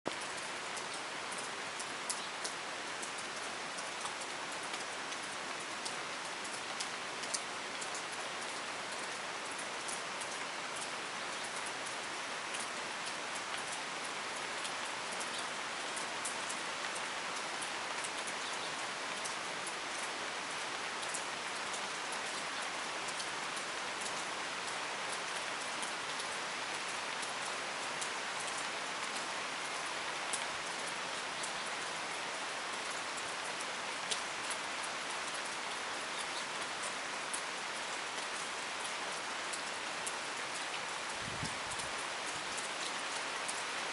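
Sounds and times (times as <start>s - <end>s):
rain falling: 0.1s - 43.9s.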